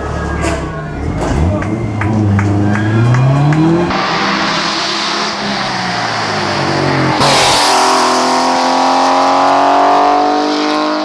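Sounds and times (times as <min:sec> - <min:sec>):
race car engine at high revs: 0:01.0 - 0:11.0.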